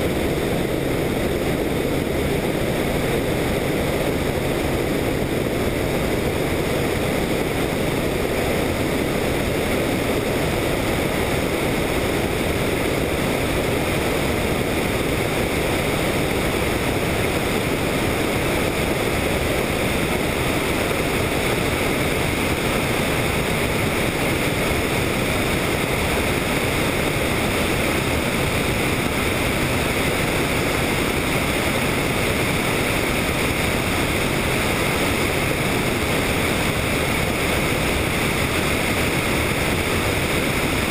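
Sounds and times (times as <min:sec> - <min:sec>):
helicopter engine and rotor rushing: 0:00.0 - 0:40.9.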